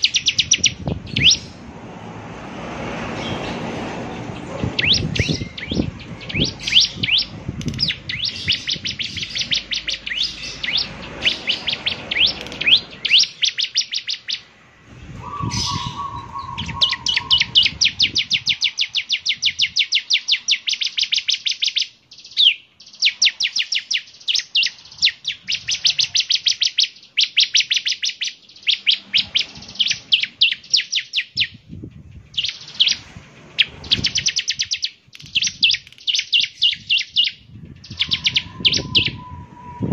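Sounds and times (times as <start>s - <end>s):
bird singing rapid high chirps: 0.0s - 1.7s, 3.1s - 39.9s.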